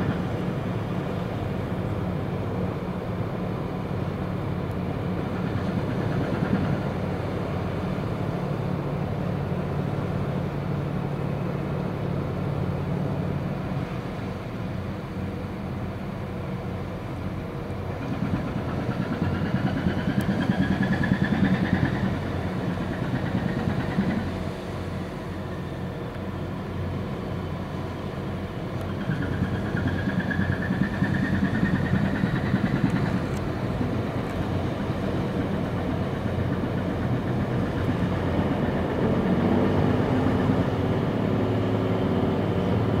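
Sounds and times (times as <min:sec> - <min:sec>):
low engine hum: 0:00.0 - 0:43.0.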